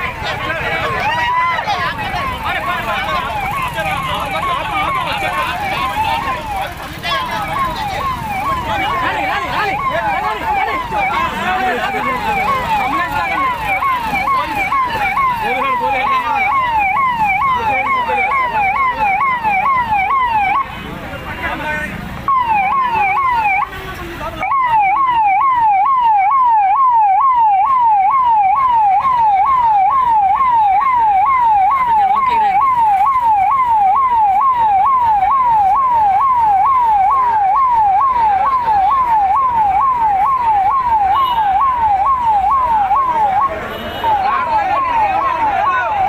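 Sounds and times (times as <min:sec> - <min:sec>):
police siren yelping: 0:00.0 - 0:46.0.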